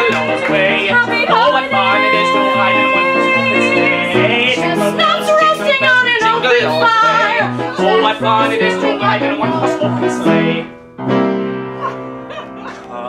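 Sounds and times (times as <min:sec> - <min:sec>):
person singing with instruments: 0:00.0 - 0:10.9.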